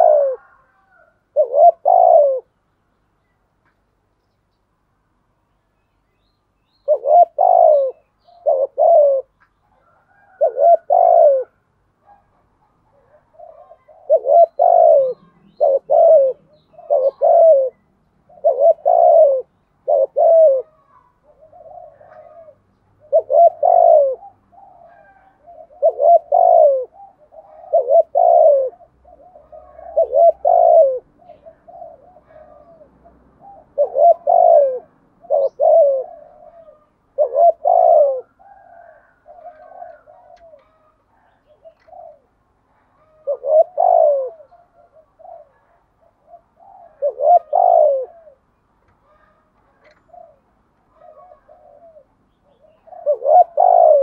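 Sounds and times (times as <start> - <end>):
dove cooing: 0.0 - 2.6, 6.8 - 54.0.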